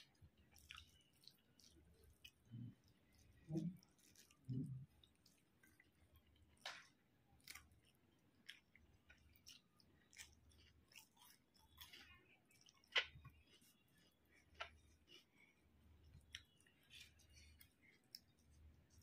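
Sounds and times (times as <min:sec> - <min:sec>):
quiet chewing: 0:00.0 - 0:19.0.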